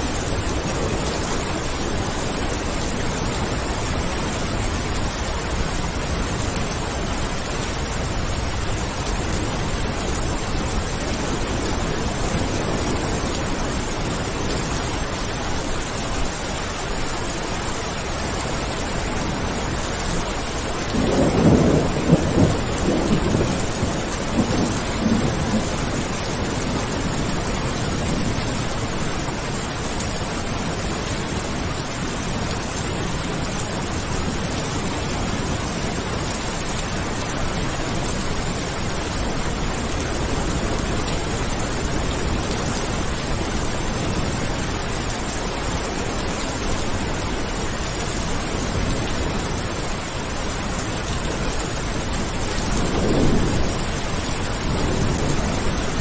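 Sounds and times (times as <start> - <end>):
thunder rumbling: 0.0 - 17.2, 18.9 - 56.0
steady rain falling: 0.0 - 56.0.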